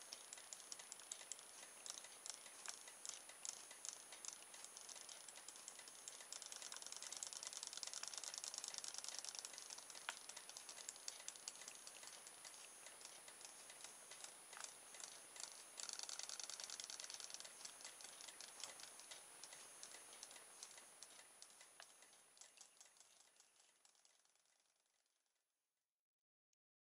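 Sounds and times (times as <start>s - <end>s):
thin steady high tone: 0.0s - 24.0s
toy motor clicking rattle: 0.0s - 25.2s.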